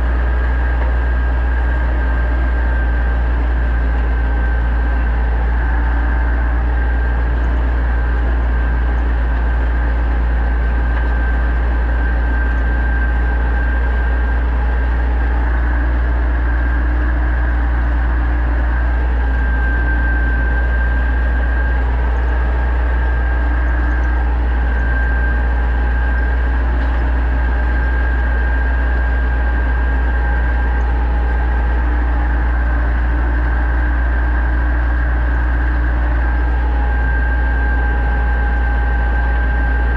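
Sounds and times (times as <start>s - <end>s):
high engine whine: 0.0s - 39.9s
tractor diesel engine droning: 0.0s - 39.9s.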